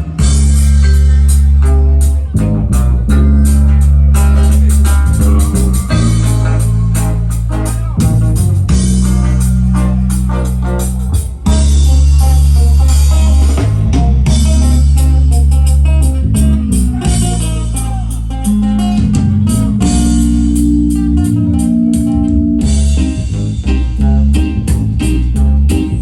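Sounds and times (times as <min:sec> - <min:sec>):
drum kit: 0:00.0 - 0:26.0
heavy bass line: 0:00.0 - 0:26.0
plucked guitar chops: 0:00.0 - 0:26.0
reggae music: 0:00.0 - 0:26.0.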